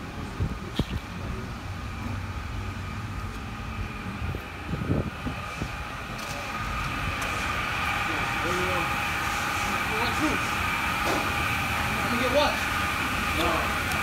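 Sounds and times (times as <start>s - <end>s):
low vehicle engine hum: 0.0s - 14.0s.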